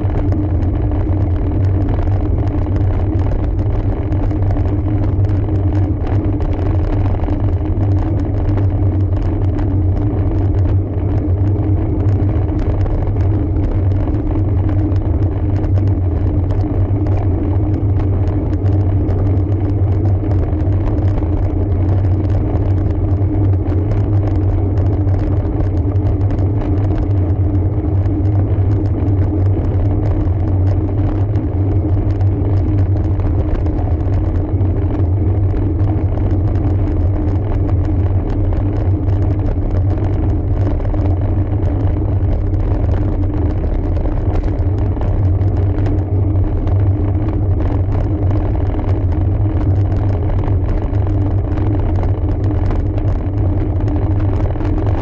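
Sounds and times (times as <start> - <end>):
tyres and wind rumbling: 0.0 - 55.0.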